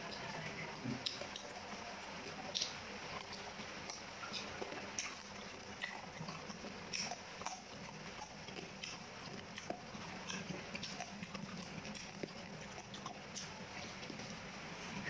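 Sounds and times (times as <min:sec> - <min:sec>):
close chewing with mouth clicks: 0:00.0 - 0:15.0.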